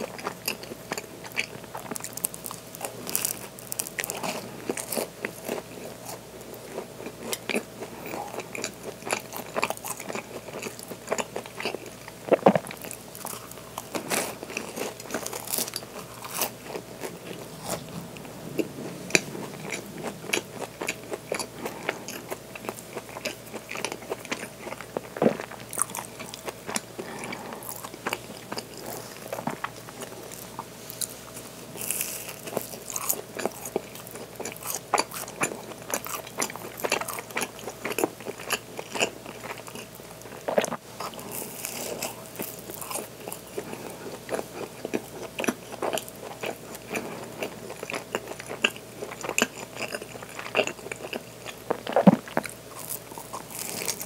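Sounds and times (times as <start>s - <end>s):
sugar crystals crunching while chewing: 0.0s - 17.9s, 18.5s - 54.0s.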